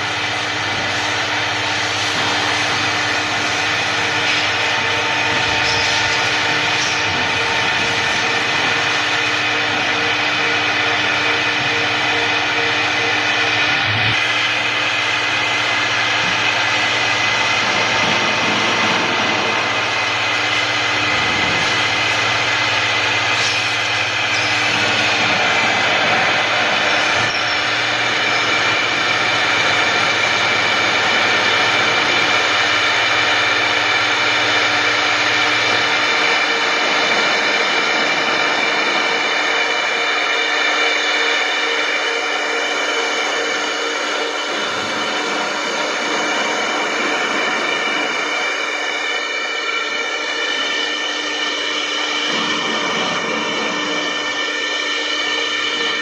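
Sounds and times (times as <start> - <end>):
cnc router spindle whine: 0.0 - 56.0.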